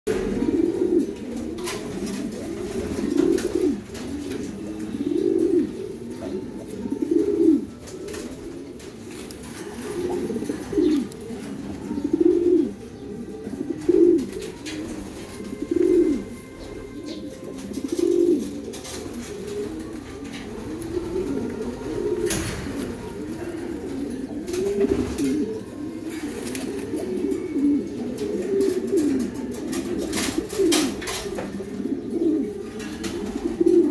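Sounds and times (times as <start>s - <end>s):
pigeon cooing: 0.1s - 33.9s.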